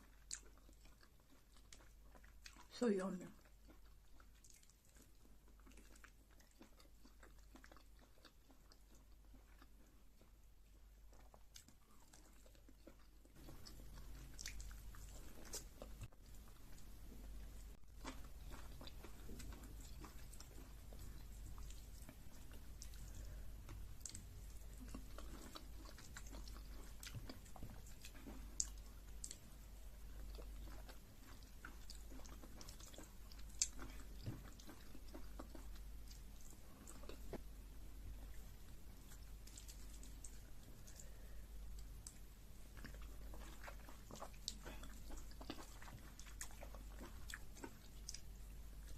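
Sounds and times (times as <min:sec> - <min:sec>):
chewing and biting food: 0:00.0 - 0:02.7, 0:03.3 - 0:48.9
steady low hum: 0:05.3 - 0:48.9.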